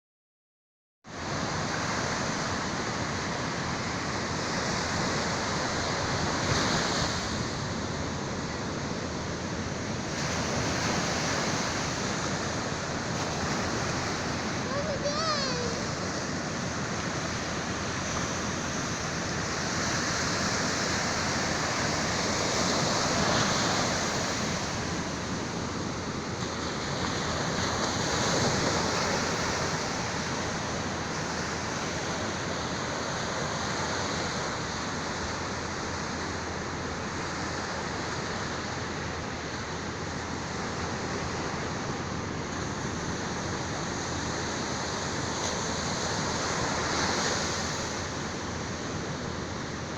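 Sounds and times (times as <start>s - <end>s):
sea waves washing onto shore: 1.2s - 49.9s.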